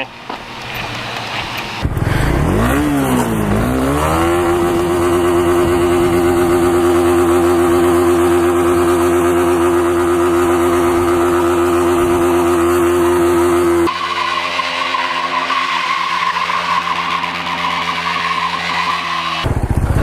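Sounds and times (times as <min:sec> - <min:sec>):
motorcycle engine revving: 0:00.6 - 0:20.0.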